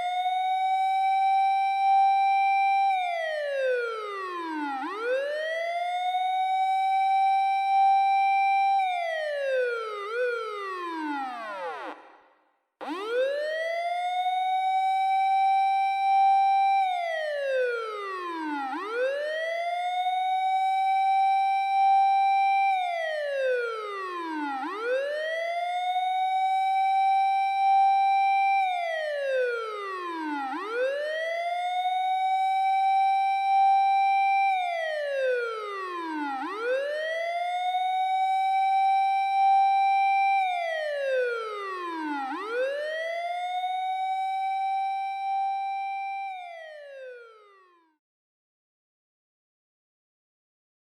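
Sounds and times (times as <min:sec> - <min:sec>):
fire engine siren wailing: 0:00.0 - 0:12.0, 0:12.8 - 0:47.9.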